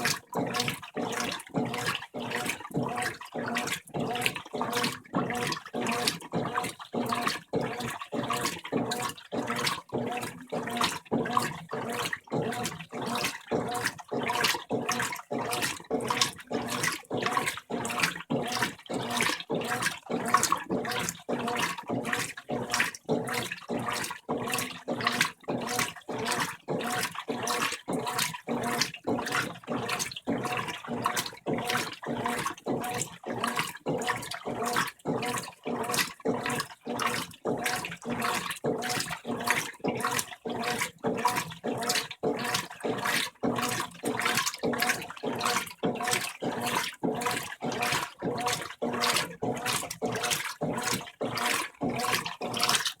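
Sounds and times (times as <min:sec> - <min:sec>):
washing machine agitator swishing water: 0:00.0 - 0:53.0.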